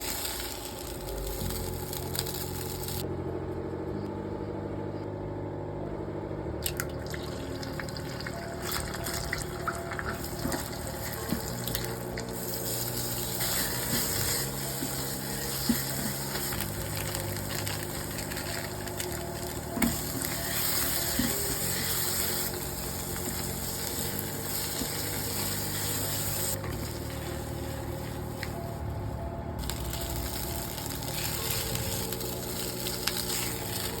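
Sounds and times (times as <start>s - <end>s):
rice sizzling in a hot pan: 0.0s - 3.0s, 7.0s - 28.9s, 29.6s - 34.0s.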